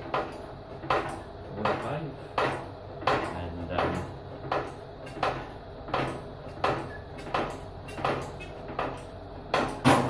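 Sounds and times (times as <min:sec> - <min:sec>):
hydraulic trolley pump clacks: 0:00.0 - 0:10.0.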